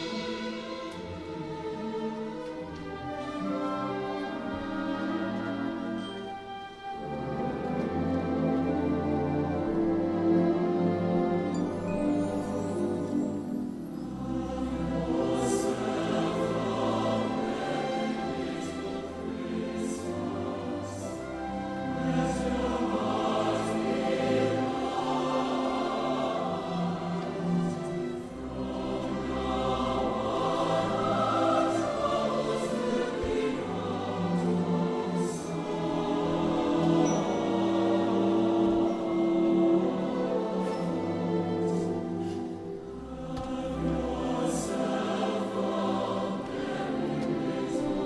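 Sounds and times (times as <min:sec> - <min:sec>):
vocal ensemble singing slowly: 0:00.0 - 0:48.0.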